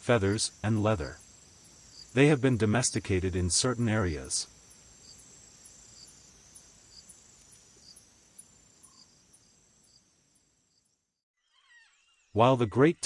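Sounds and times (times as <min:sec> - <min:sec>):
insect chirping trill: 0:00.0 - 0:12.8.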